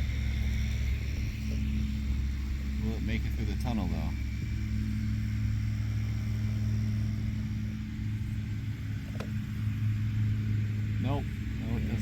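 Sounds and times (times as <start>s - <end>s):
electric model locomotive humming: 0.0s - 12.0s.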